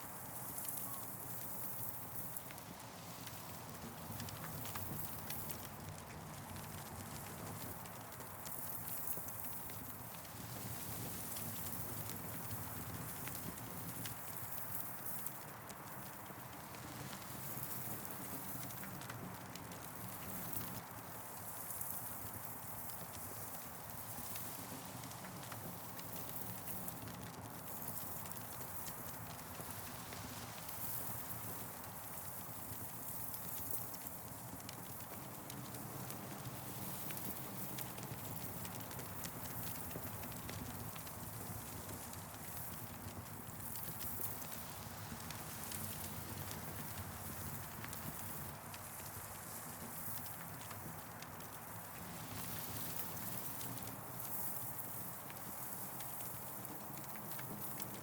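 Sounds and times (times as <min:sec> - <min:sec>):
campfire crackling and popping: 0:00.8 - 0:58.0.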